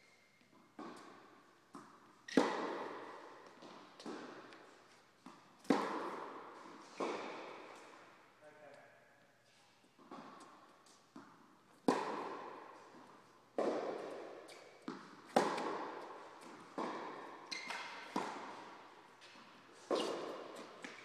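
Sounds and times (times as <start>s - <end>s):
tennis ball bouncing on court: 0.4s - 8.1s, 10.0s - 21.0s
tennis ball struck by rackets: 0.8s - 8.0s, 10.0s - 21.0s.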